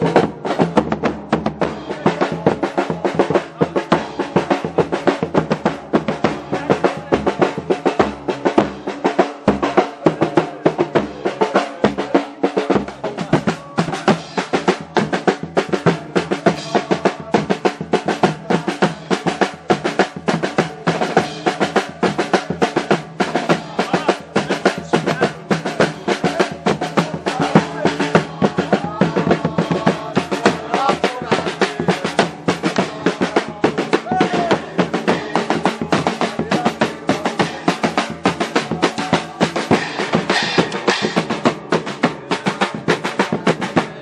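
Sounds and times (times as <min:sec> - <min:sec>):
bass drums beating: 0:00.0 - 0:44.0
snare drums rattling: 0:00.0 - 0:44.0.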